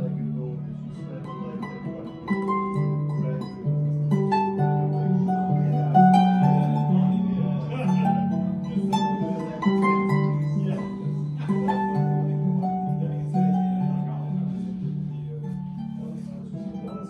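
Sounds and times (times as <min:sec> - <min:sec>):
solo harp playing: 0:00.0 - 0:17.0.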